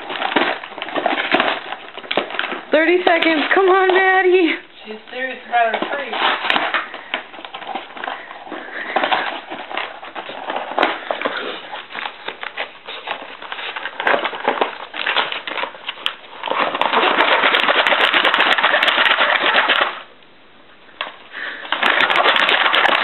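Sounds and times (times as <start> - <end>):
dog tearing cardboard: 0.0 - 20.1, 21.4 - 23.0.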